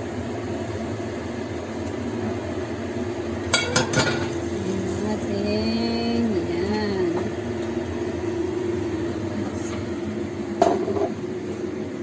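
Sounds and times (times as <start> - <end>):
kitchen hum: 0.0 - 12.0.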